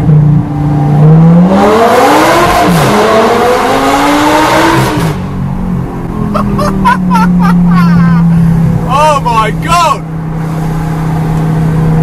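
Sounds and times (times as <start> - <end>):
sports car engine accelerating: 0.0 - 9.0, 10.0 - 12.0.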